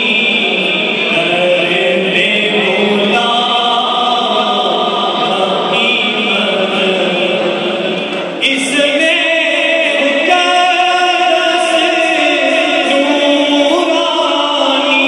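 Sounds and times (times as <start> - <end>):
unaccompanied devotional chanting: 0.0 - 15.0.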